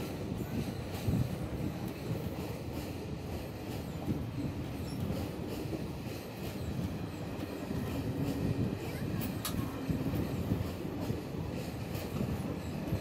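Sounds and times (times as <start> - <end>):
train wheels rumbling on rails: 0.0 - 13.0
wheels clicking over rail joints: 0.0 - 13.0.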